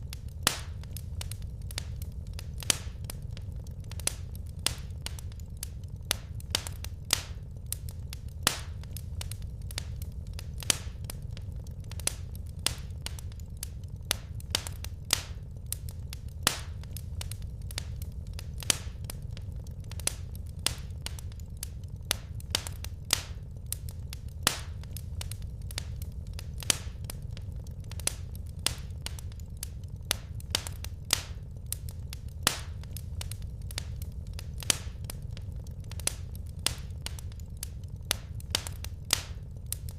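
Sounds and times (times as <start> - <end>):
low rumble of burning fire: 0.0 - 39.9
wood fire crackling: 0.0 - 39.9.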